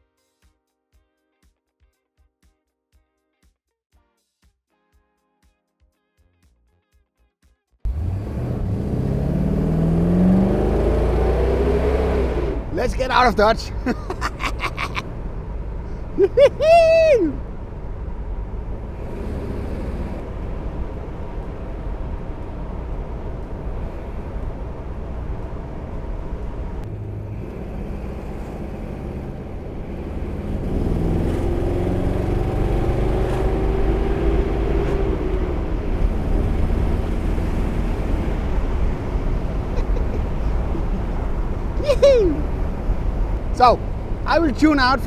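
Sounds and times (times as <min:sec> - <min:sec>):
car engine accelerating: 0:07.9 - 0:45.0.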